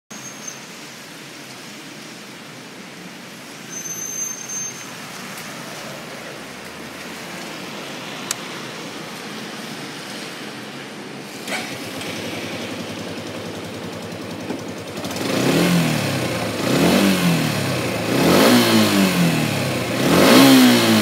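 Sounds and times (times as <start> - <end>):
passing traffic: 0.1 - 21.0
wet street hiss: 0.1 - 21.0.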